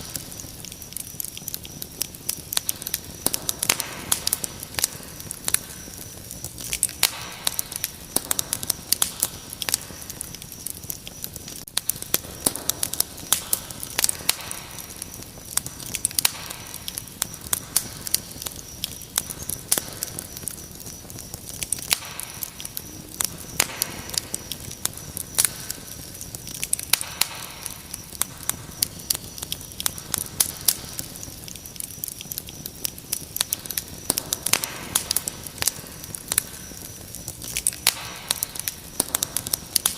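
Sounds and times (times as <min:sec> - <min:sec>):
cricket trill: 0:00.0 - 0:39.9
wood fire crackling: 0:00.0 - 0:39.9.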